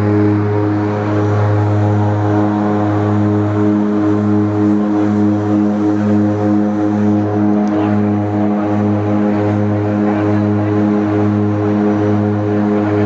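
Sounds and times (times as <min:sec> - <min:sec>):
propeller engine drone: 0:00.0 - 0:13.0.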